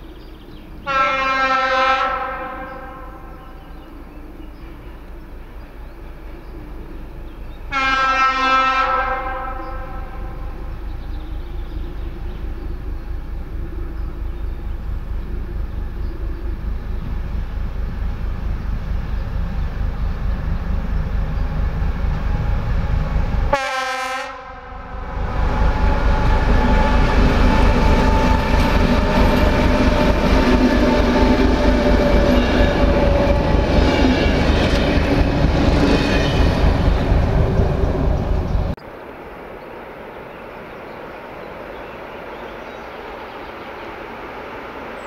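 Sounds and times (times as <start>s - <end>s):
diesel locomotive passing: 0.0s - 45.0s
outdoor background noise: 0.0s - 45.0s.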